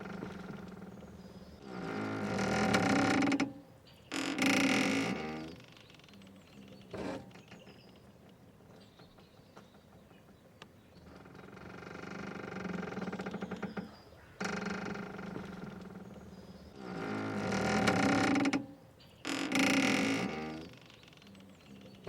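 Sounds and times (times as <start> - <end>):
boat rope creaking: 0.0 - 7.8, 11.0 - 22.0.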